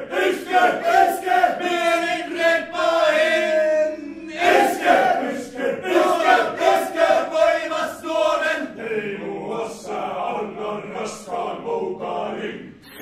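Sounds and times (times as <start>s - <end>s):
male choir shouting in unison: 0.0s - 11.2s.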